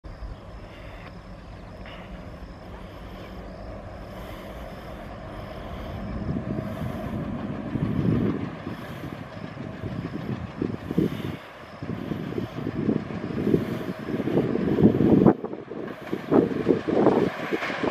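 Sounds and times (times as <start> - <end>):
diesel locomotives chugging: 0.0 - 17.9
rough low rumble: 0.0 - 17.9.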